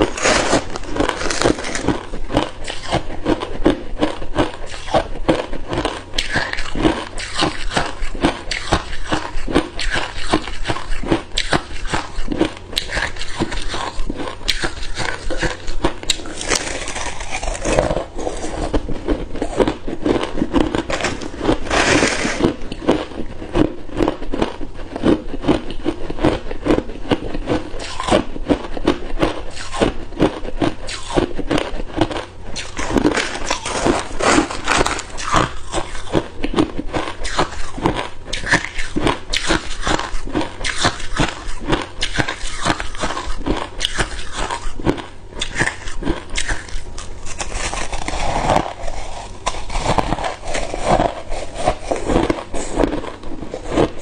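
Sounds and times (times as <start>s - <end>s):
ice cubes crunched between teeth: 0.0s - 26.8s, 27.5s - 54.0s.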